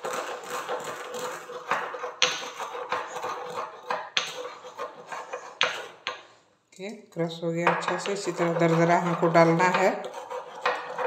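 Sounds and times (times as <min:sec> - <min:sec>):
pestle grinding seeds: 0:00.0 - 0:06.2, 0:07.7 - 0:11.0.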